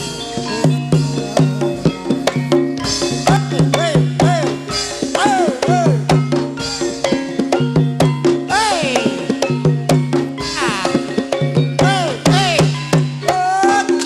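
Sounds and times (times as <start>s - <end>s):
drum strokes: 0.0s - 14.0s
pitched struck notes: 0.0s - 14.0s.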